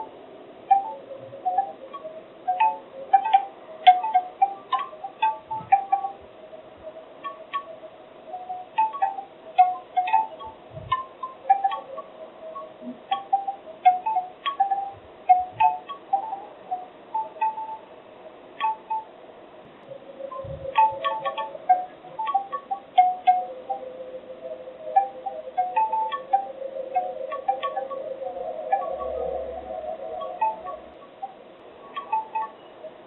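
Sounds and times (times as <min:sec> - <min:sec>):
bamboo wind chimes clattering: 0:00.0 - 0:06.3, 0:07.1 - 0:17.9, 0:18.5 - 0:19.1, 0:19.8 - 0:33.0.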